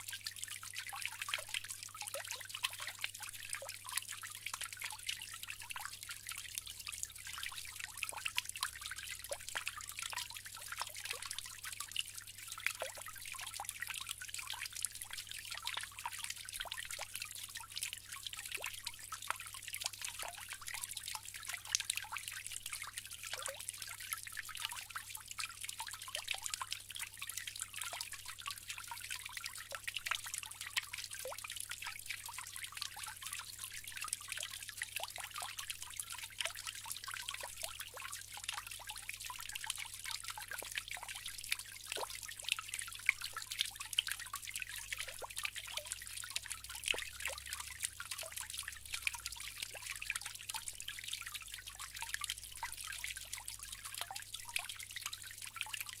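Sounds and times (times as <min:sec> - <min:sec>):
water trickling into basin: 0:00.0 - 0:56.0.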